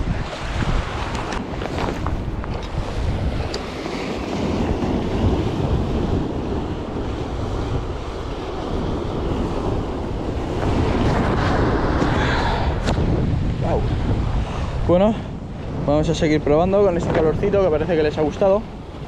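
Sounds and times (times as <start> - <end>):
waves washing against rocks: 0.0 - 19.0
wind buffeting microphone: 0.0 - 19.0.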